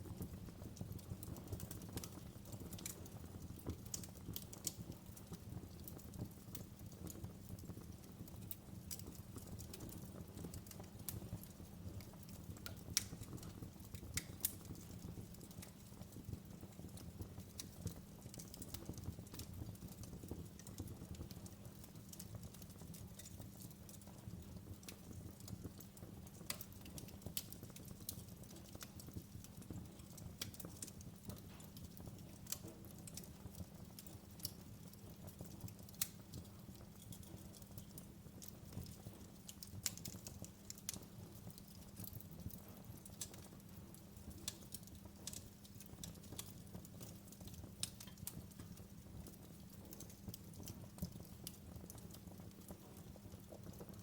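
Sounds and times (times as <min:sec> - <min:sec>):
fire hissing and rumbling: 0:00.0 - 0:54.0
wood fire pops and snaps: 0:00.0 - 0:54.0.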